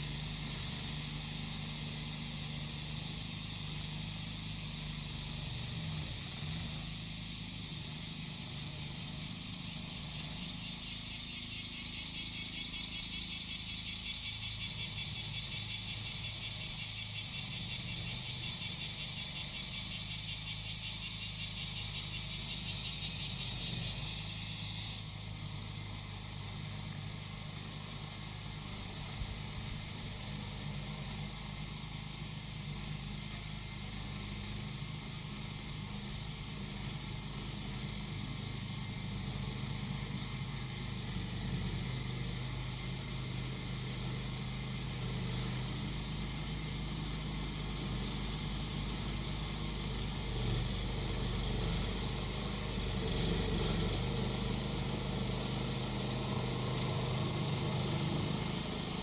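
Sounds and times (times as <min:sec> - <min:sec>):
cicada singing in pulses: 0:00.0 - 0:59.0
grass cutter engine humming: 0:00.0 - 0:59.0.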